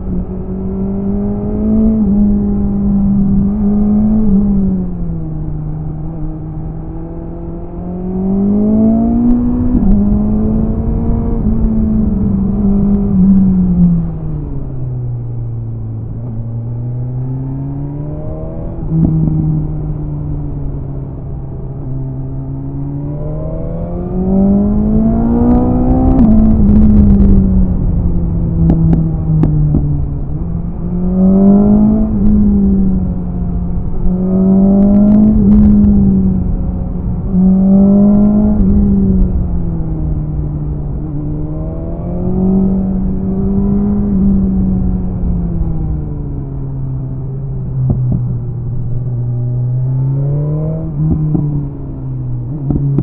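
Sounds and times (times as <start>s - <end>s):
motorcycle engine revving: 0.0s - 14.7s, 16.2s - 53.0s.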